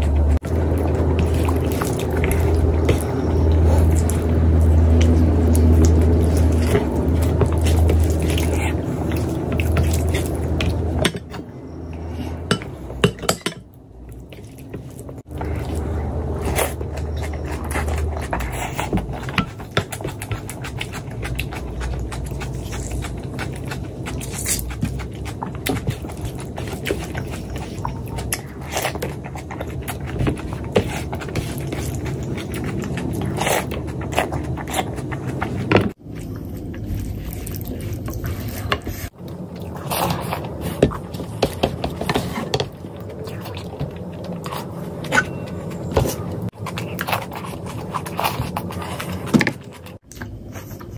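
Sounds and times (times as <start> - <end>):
wet chewing: 0.0 - 50.9.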